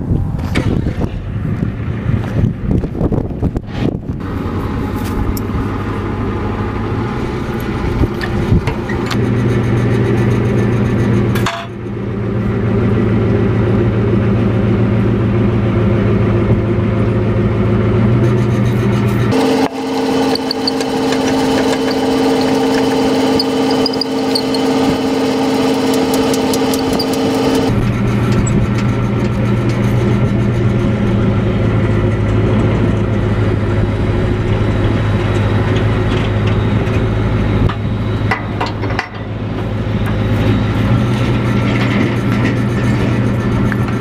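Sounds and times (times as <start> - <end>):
engine idling: 4.2 - 44.0.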